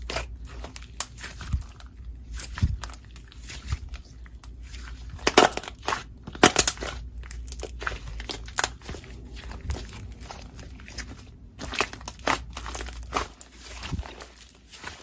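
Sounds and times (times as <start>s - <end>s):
slime crackling and popping: 0.0s - 15.0s.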